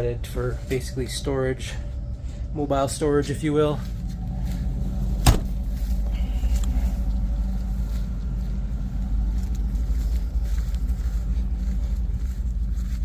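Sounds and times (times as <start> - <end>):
motorhome engine idling: 0.0 - 13.0.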